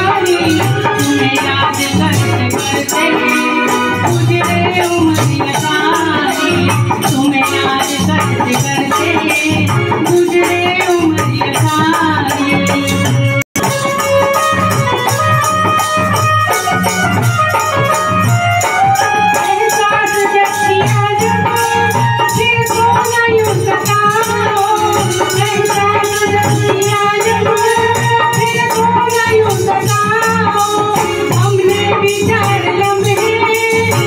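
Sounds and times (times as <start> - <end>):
woman singing: 0.0 - 13.4, 18.8 - 34.0
percussion beat: 0.0 - 34.0.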